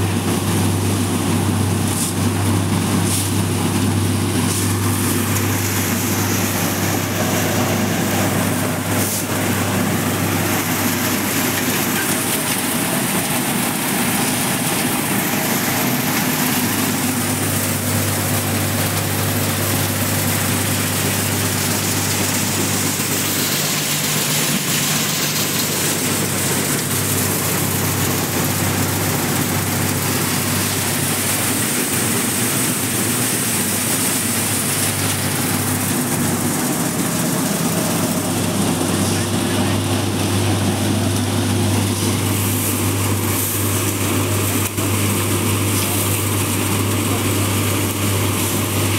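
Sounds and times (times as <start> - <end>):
threshing drum and fan whirring: 0.0 - 48.9.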